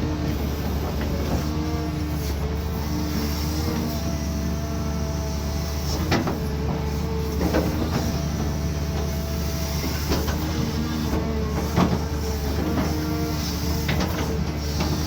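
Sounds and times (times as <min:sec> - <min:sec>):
engine whine: 0:00.0 - 0:15.0
excavator diesel engine running: 0:00.0 - 0:15.0.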